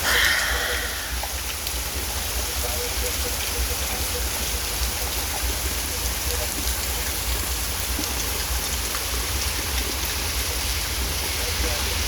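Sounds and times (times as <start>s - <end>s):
rain hissing: 0.0s - 12.0s
raindrop ticks: 0.1s - 12.0s.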